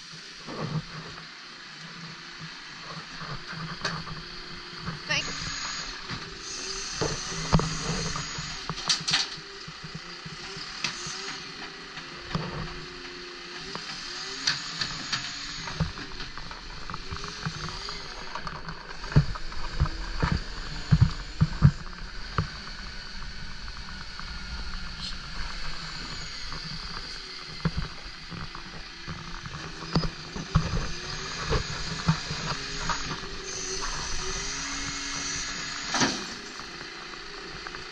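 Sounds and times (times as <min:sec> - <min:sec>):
truck engine and hydraulic arm: 0:00.1 - 0:37.9.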